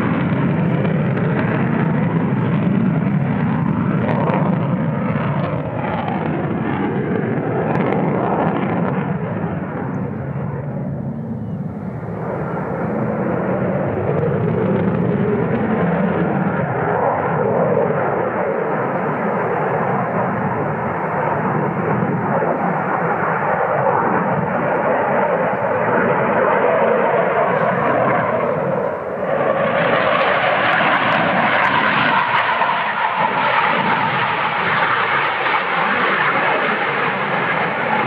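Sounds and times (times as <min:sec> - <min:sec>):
fighter jet engine noise: 0:00.0 - 0:38.0.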